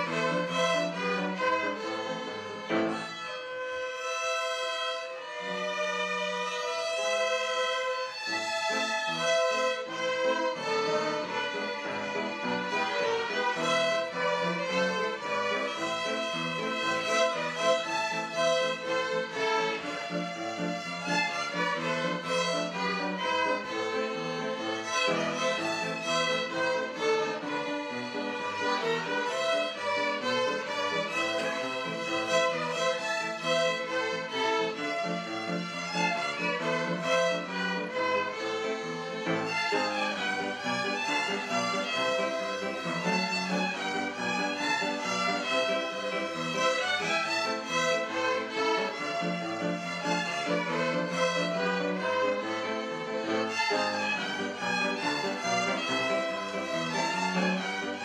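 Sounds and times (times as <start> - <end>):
violin ensemble playing: 0.0 - 58.0.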